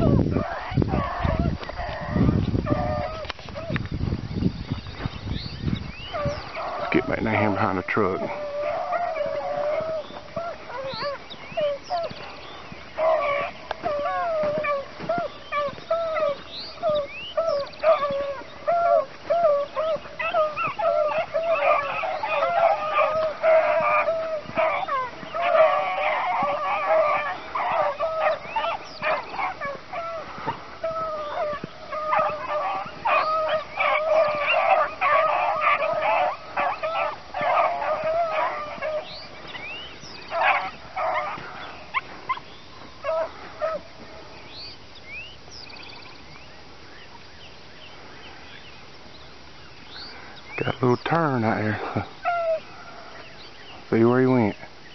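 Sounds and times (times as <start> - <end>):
beagles baying: 0.0 - 48.7, 49.3 - 54.9.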